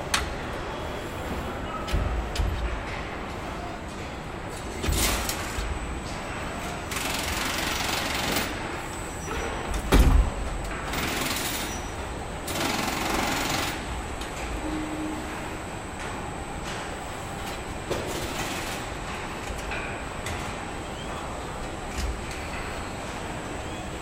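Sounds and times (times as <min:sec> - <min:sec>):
steady machine background: 0:00.0 - 0:24.0.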